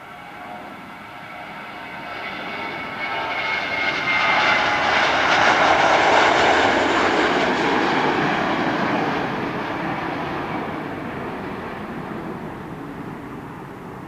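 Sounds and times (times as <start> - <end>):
jet airliner engine roar: 0.0 - 14.0.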